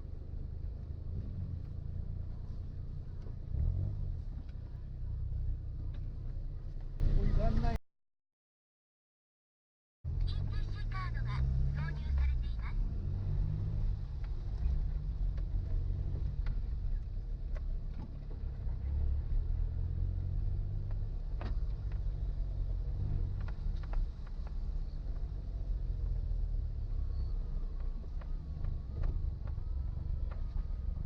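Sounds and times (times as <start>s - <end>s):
low engine and road rumble: 0.0s - 7.8s, 10.1s - 31.0s.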